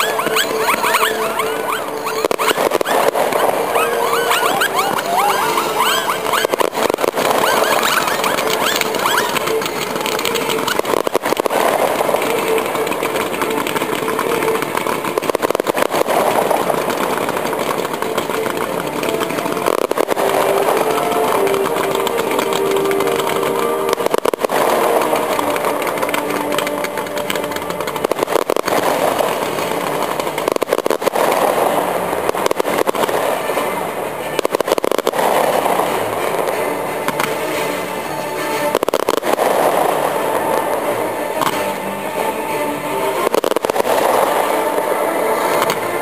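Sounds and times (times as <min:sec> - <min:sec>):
fireworks hissing and crackling: 0:00.0 - 0:46.0
fireworks popping: 0:00.0 - 0:46.0
rising firework whistles: 0:00.0 - 0:46.0.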